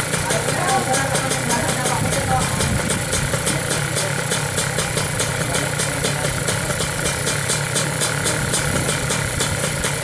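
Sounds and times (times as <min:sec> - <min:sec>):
sharp regular ticking: 0:00.0 - 0:10.0
two-stroke engine idling: 0:00.0 - 0:10.0.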